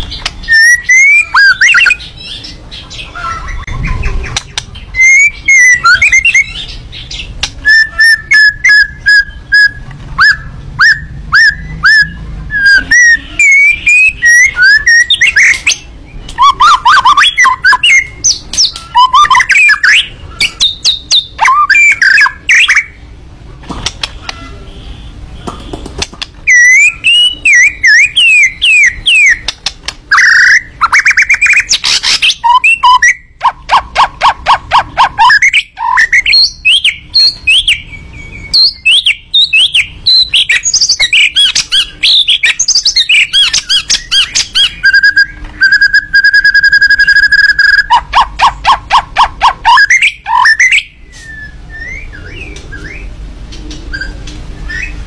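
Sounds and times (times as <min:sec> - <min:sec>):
songbird singing: 0:00.0 - 0:23.1, 0:24.0 - 0:55.0.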